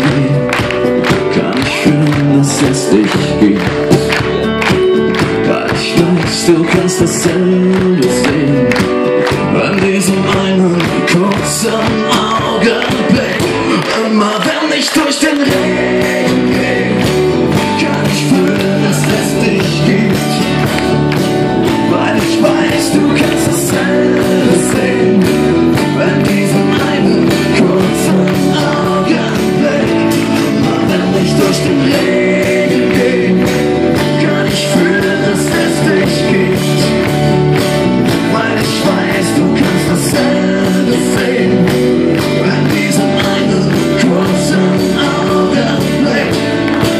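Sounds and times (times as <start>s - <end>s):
cajon beat: 0.0s - 46.9s
person singing: 0.0s - 46.9s
strummed acoustic guitars: 0.0s - 46.9s.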